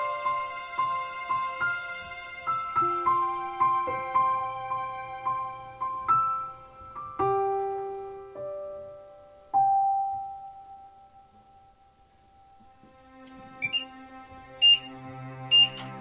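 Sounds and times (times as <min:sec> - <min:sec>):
slow piano notes: 0:00.0 - 0:16.0.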